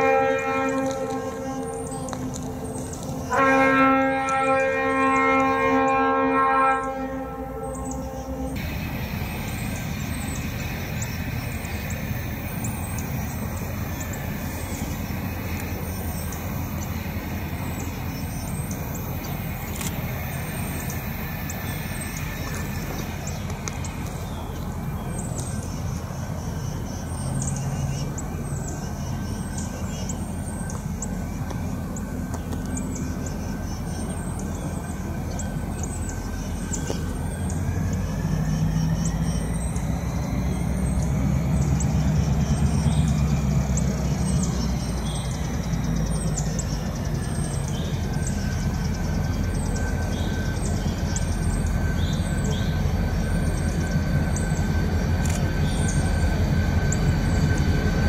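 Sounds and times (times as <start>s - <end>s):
diesel locomotive engine rumble: 0.0s - 58.0s
bird chirps: 9.2s - 58.0s.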